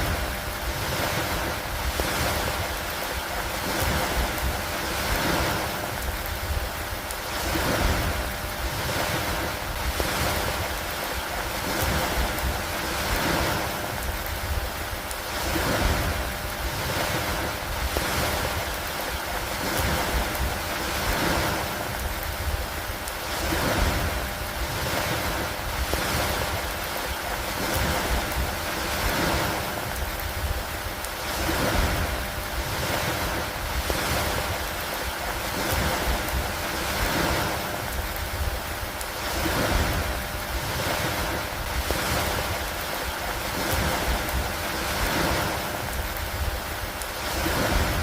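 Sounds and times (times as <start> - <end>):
steady rain: 0.0 - 48.0
wind: 0.0 - 48.0.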